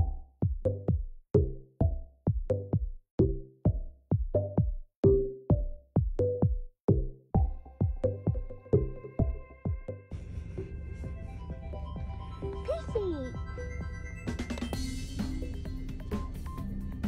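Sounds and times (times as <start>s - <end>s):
electronic music with drum-machine beat: 0.0s - 17.0s.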